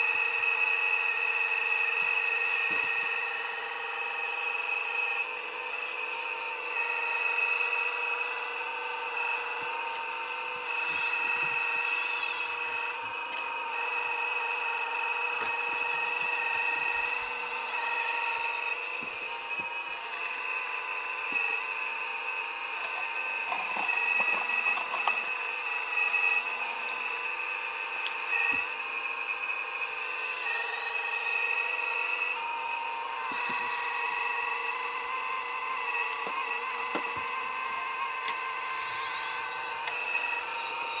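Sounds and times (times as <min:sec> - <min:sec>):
heavy machine engine whining: 0:00.0 - 0:41.0.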